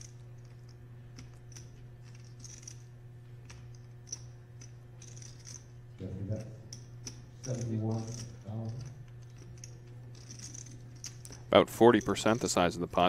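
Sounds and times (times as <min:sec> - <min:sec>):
clay poker chips clicking: 0:00.0 - 0:02.8, 0:03.4 - 0:05.7, 0:06.7 - 0:12.7
steady low hum: 0:00.0 - 0:13.0.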